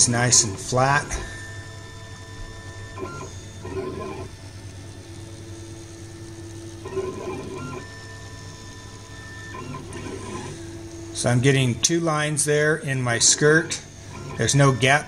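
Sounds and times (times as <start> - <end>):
stepper motors whining: 0.0 - 15.0.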